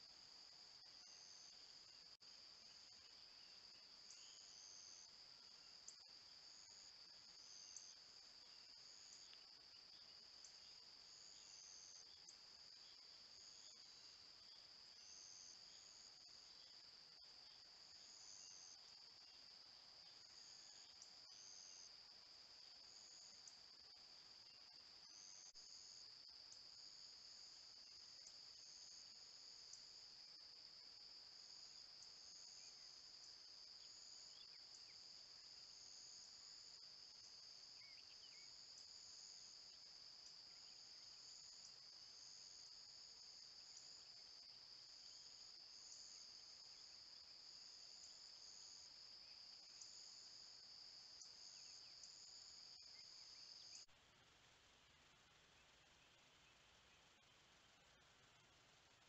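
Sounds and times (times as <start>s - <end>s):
insects trilling: 0.0s - 53.9s
pulsing insect trill: 0.0s - 53.9s.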